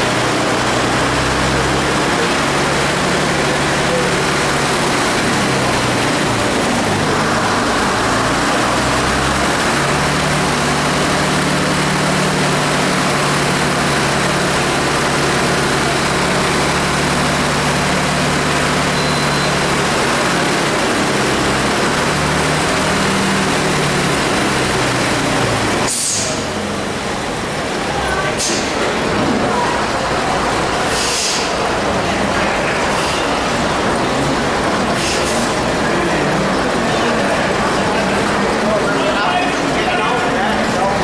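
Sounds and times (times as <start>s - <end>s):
bus diesel engine idling: 0.0s - 41.0s.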